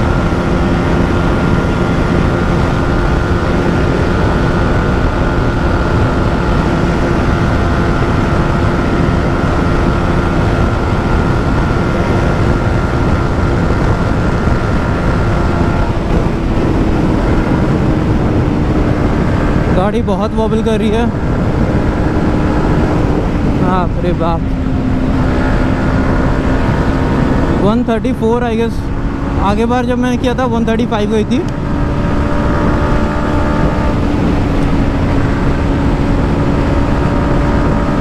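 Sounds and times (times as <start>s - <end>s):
motorcycle engine running flat out: 0.0s - 38.0s
wind rush on microphone: 0.0s - 38.0s.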